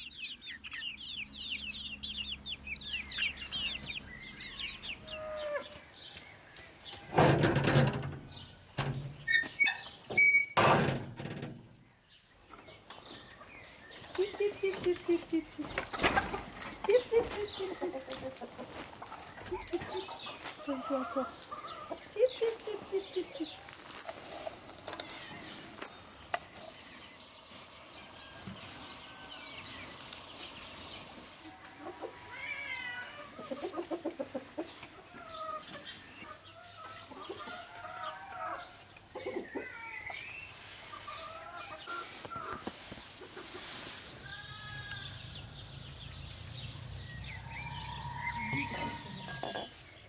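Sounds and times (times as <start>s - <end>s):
chickens clucking: 0.0s - 10.4s, 12.4s - 50.0s.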